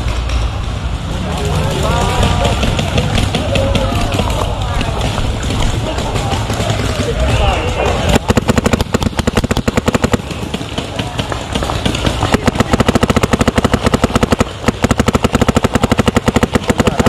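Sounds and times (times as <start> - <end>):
rapid sharp pops: 2.4 - 17.0.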